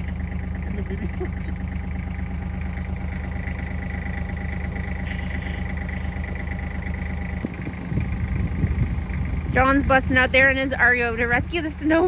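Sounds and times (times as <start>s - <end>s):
engine idling: 0.0s - 12.0s
engine knock: 0.0s - 12.0s.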